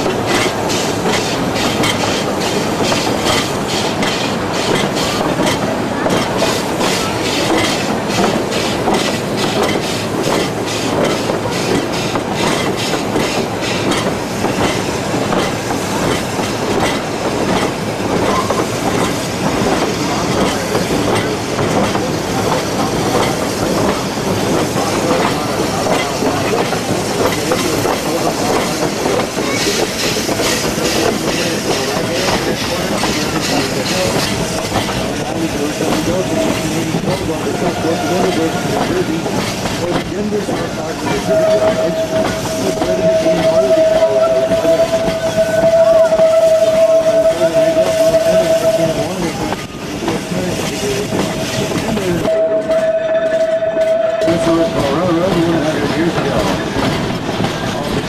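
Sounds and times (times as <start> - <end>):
rail clicks: 0.0 - 58.0
train wheels clattering on rails: 0.0 - 58.0.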